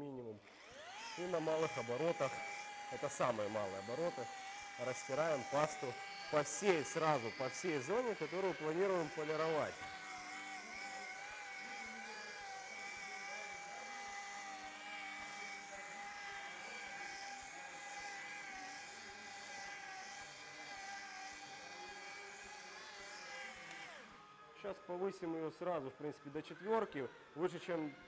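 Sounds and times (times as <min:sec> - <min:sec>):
rotary polisher motor whine: 0:00.4 - 0:28.0.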